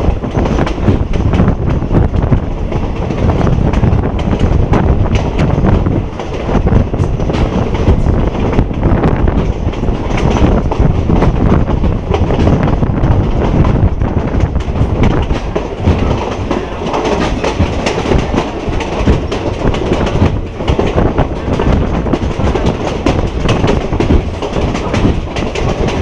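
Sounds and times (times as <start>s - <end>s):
train rumbling: 0.0s - 26.0s
train wheels clickety-clack: 0.0s - 26.0s.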